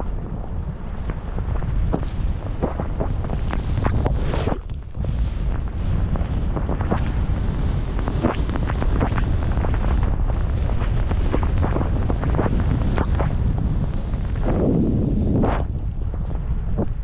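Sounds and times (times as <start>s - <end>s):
wind on microphone: 0.0s - 17.0s
skis crackling through snow: 1.0s - 17.0s.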